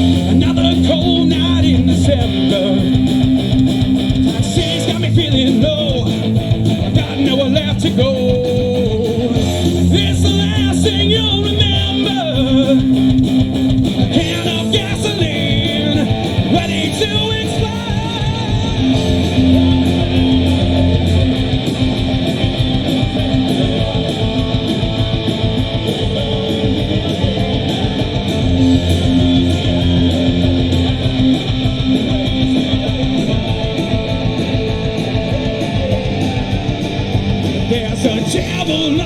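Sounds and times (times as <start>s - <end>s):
drum hits: 0.0s - 39.0s
electric guitars: 0.0s - 39.0s.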